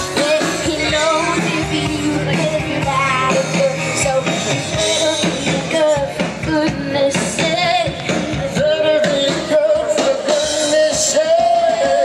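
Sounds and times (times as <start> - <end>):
live band playing: 0.0 - 12.0
person singing: 0.0 - 12.0.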